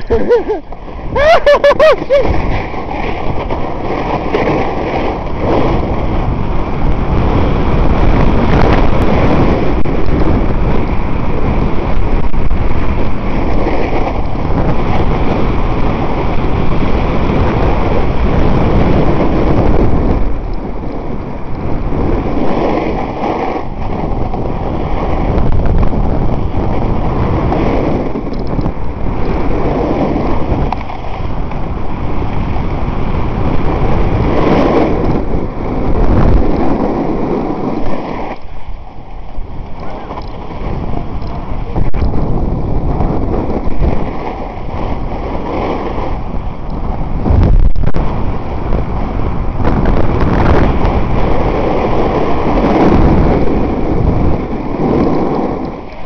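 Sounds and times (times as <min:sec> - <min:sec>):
snowboard scraping over snow: 0:00.0 - 0:56.0
wind buffeting microphone: 0:00.0 - 0:56.0.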